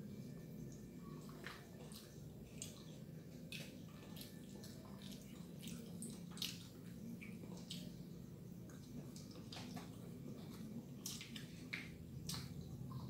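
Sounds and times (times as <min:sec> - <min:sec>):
low steady hum: 0:00.0 - 0:13.0
mouth chewing and lip smacking: 0:01.1 - 0:13.0.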